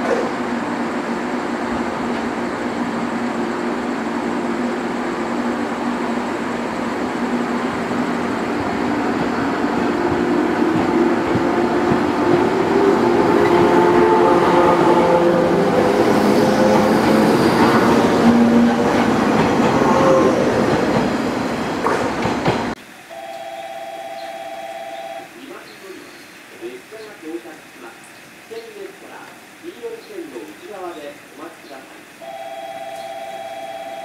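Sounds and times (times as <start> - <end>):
electric train rumbling: 0.0 - 34.0.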